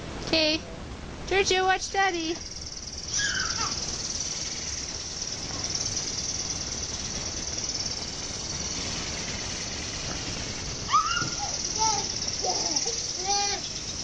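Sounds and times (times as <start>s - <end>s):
wind buffeting microphone: 0.0s - 14.0s
high-pitched hiss: 1.4s - 14.0s.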